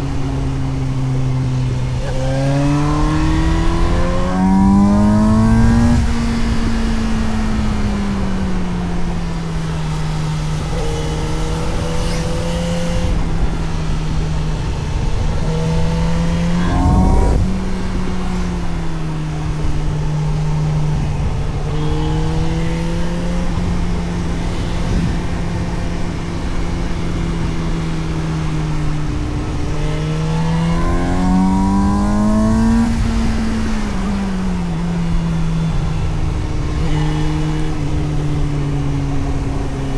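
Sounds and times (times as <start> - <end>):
motorcycle engine revving: 0.0 - 39.9
wind and road rush: 0.0 - 39.9.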